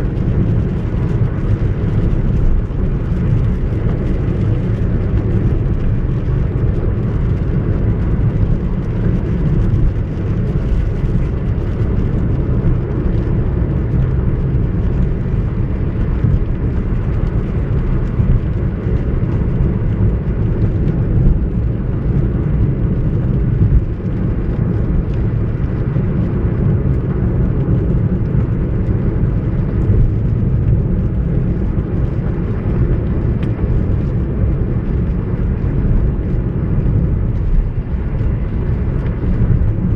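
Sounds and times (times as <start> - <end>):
car engine and road noise: 0.0 - 39.9
tyres on wet road: 0.0 - 39.9.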